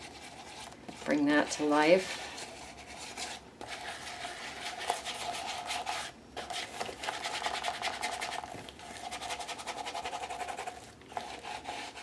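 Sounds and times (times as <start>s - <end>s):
ink pad scuffing on paper: 0.0s - 12.0s.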